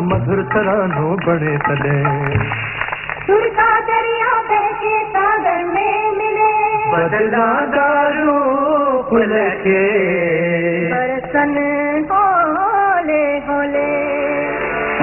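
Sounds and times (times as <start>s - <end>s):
song with singing and instruments: 0.0s - 15.0s.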